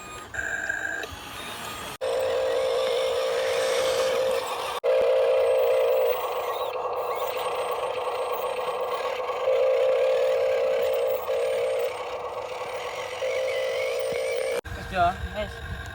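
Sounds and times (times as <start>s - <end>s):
high-pitched motor whine: 0.0s - 15.9s.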